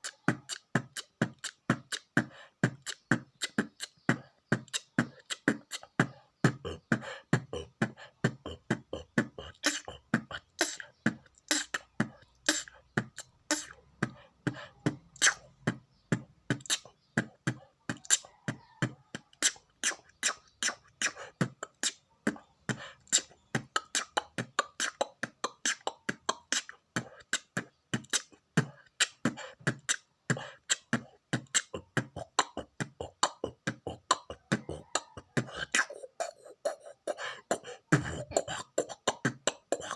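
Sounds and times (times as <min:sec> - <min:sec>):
person beatboxing: 0:00.0 - 0:39.9.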